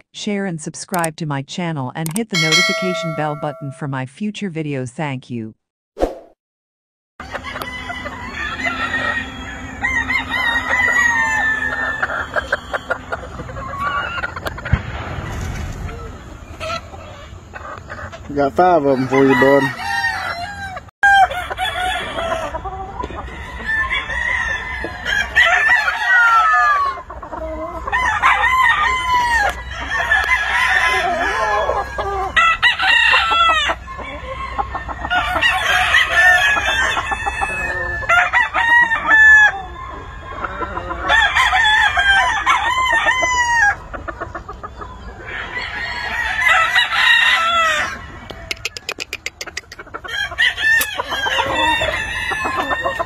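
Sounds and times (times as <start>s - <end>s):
hens clucking: 7.2s - 14.8s, 15.8s - 53.0s
roosters crowing: 7.2s - 14.8s, 15.8s - 48.9s, 49.8s - 53.0s.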